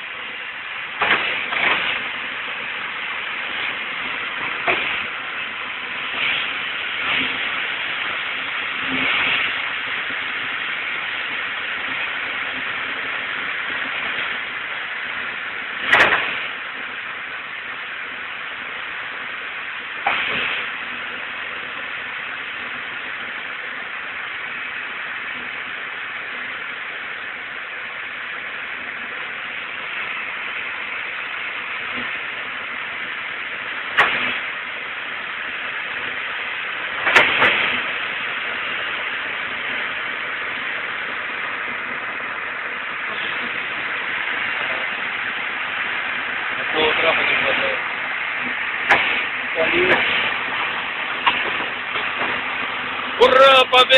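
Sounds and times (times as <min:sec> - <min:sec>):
excavator running: 0:00.0 - 0:53.9.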